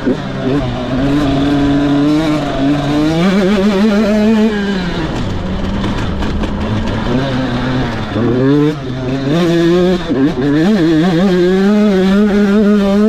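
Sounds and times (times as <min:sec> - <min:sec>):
motocross bike engine: 0:00.0 - 0:13.0.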